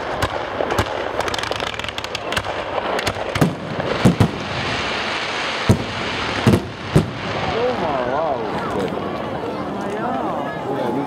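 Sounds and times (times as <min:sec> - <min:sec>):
loud firework bangs: 0:00.0 - 0:09.3
fireworks popping and crackling: 0:00.0 - 0:10.3.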